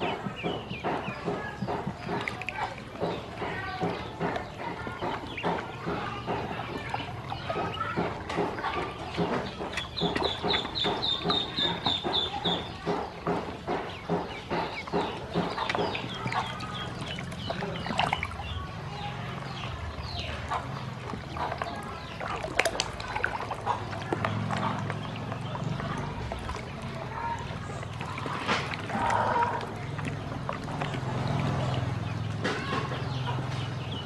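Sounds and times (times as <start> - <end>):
ducklings peeping: 0.0 - 34.0.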